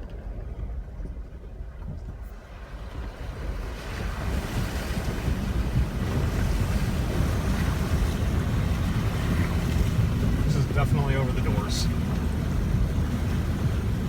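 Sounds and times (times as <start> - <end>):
low engine rumble: 0.0 - 14.0
water rushing and splashing: 2.3 - 14.0.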